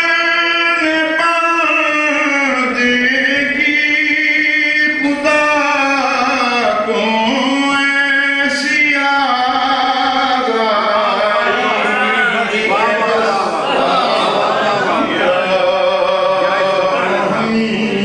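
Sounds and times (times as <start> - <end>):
man chanting verse: 0.0 - 18.0.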